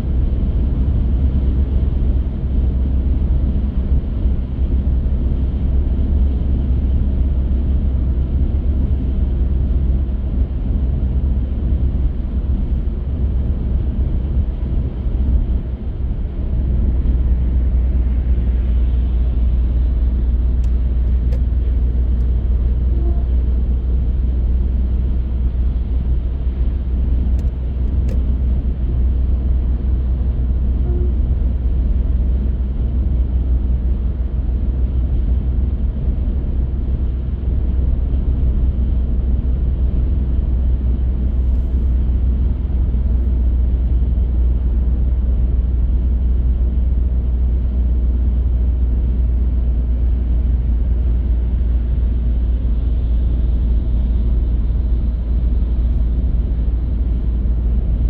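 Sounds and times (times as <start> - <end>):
car engine rumble: 0.0 - 58.0
tyre road noise: 0.0 - 58.0.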